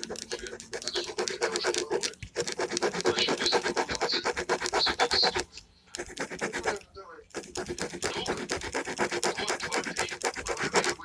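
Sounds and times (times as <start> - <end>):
pen scratching on paper: 0.0 - 11.0.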